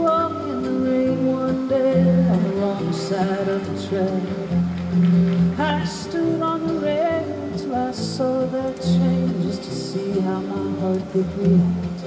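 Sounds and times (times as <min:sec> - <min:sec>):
song with sung vocal: 0:00.0 - 0:12.0.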